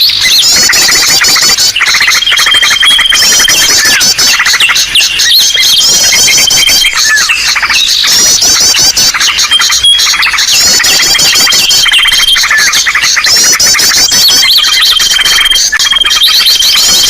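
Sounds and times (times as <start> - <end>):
bird chirps and trills: 0.0 - 17.0.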